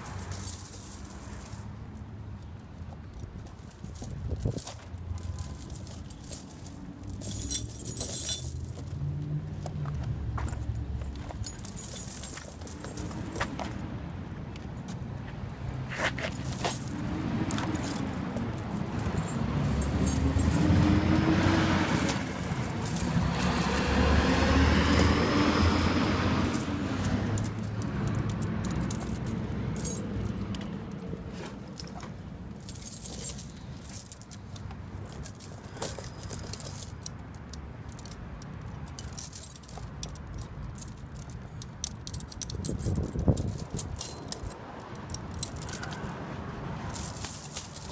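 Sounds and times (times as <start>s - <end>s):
tire chains clinking and jangling: 0.0s - 47.9s.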